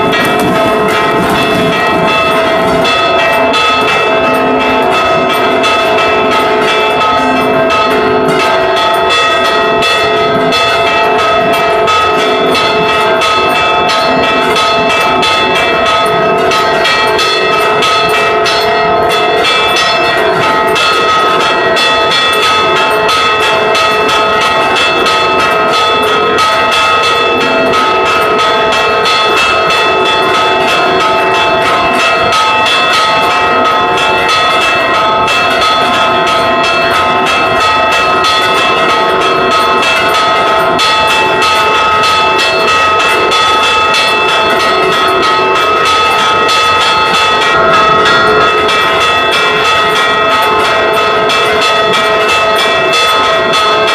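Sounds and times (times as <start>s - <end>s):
church bells ringing rapidly: 0.0s - 53.9s.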